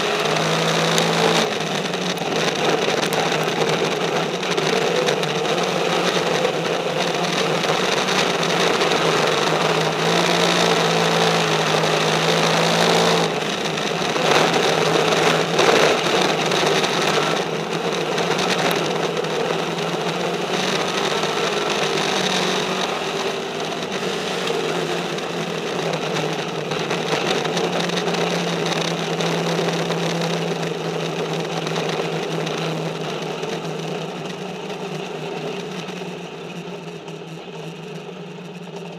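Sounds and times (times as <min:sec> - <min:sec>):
race car engine running: 0:00.0 - 0:38.9
road noise: 0:00.0 - 0:38.9.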